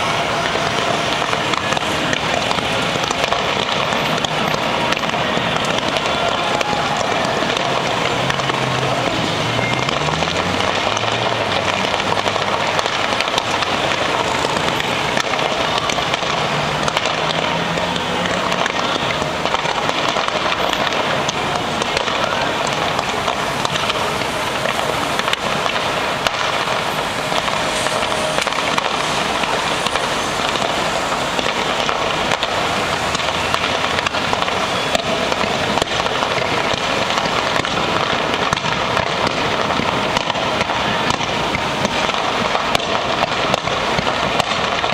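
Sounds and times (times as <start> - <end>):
firecrackers crackling: 0.0 - 44.9.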